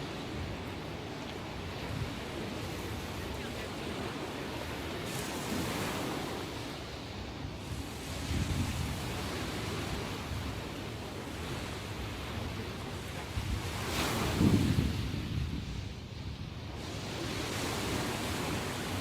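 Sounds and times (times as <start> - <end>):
ocean waves breaking on shore: 0.0 - 19.0
wind rumble on microphone: 0.0 - 19.0.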